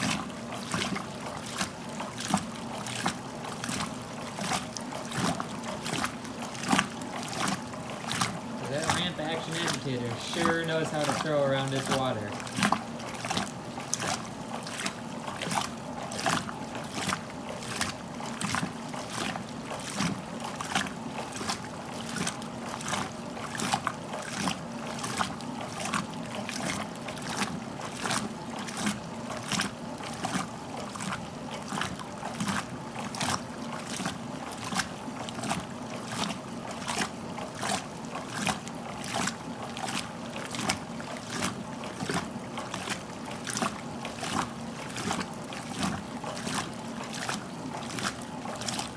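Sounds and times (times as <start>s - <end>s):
low motor hum: 0.0s - 48.9s
washing machine water splashing: 0.0s - 48.9s.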